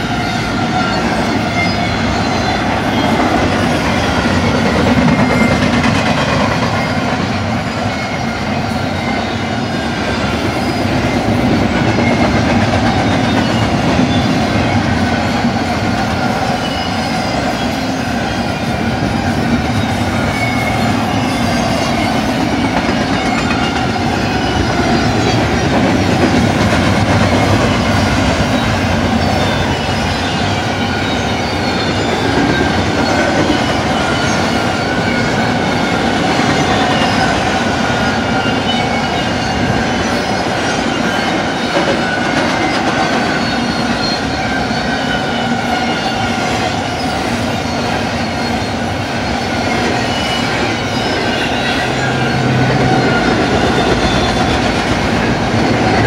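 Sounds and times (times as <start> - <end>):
high wheel squeals: 0.0 - 56.0
train wheels rumbling on rails: 0.0 - 56.0.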